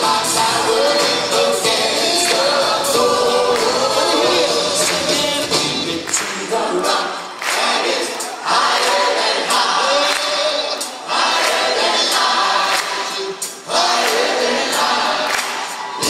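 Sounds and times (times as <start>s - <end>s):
choir singing a worship song: 0.0s - 16.0s
live band playing: 0.0s - 16.0s.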